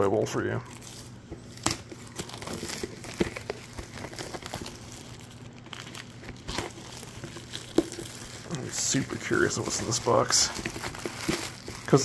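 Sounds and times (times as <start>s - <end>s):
plastic shrink-wrap crinkling: 0.7s - 12.0s.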